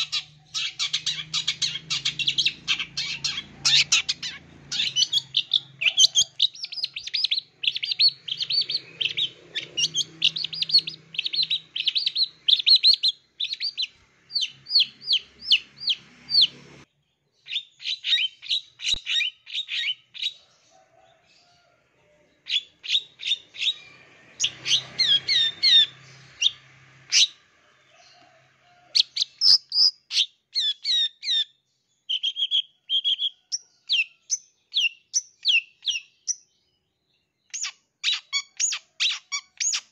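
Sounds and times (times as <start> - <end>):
bird chattering song: 0.0 - 16.7, 17.4 - 20.6, 22.4 - 27.4, 29.0 - 36.5, 37.2 - 39.9.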